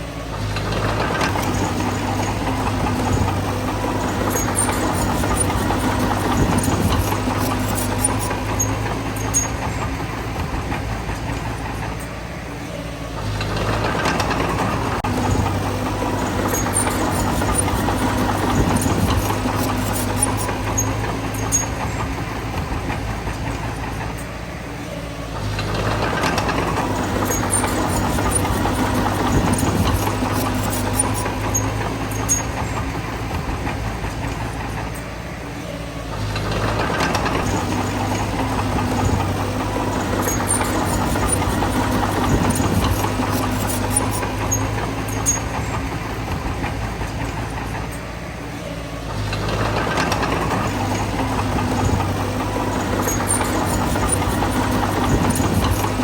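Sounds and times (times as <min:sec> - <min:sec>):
bulldozer diesel engine working: 0:00.0 - 0:56.0
scattered clicks: 0:00.6 - 0:12.1, 0:13.4 - 0:24.3, 0:25.5 - 0:35.1, 0:36.3 - 0:48.0, 0:49.2 - 0:56.0.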